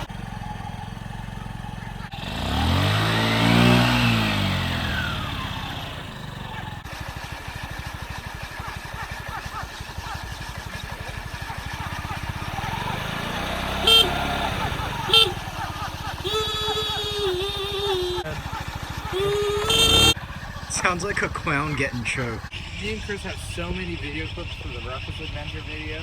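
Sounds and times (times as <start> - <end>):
scooter engine revving and idling: 0.0 - 26.0.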